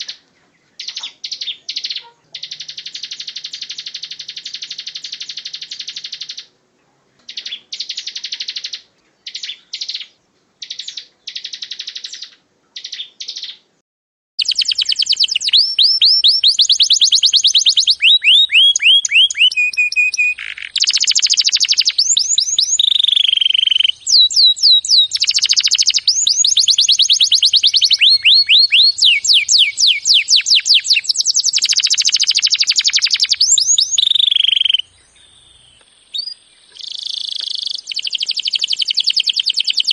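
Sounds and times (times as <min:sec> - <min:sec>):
songbird singing: 0:00.0 - 0:13.8, 0:14.4 - 0:39.9.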